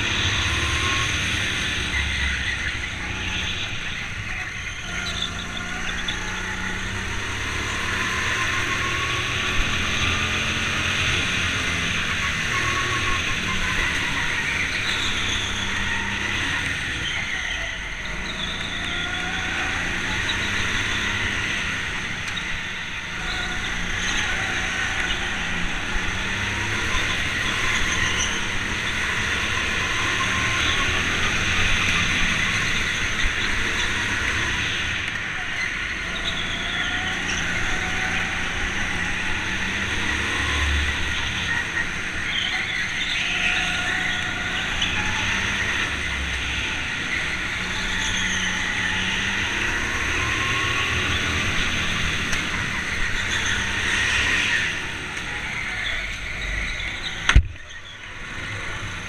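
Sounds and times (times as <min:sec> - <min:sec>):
go-kart motor revving: 0:00.0 - 0:59.0
wind and tyre noise: 0:00.0 - 0:59.0.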